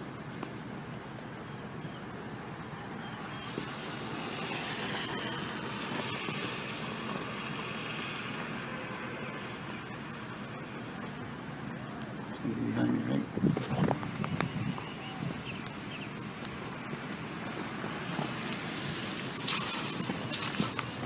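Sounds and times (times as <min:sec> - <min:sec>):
rushing outdoor noise: 0:00.0 - 0:21.0.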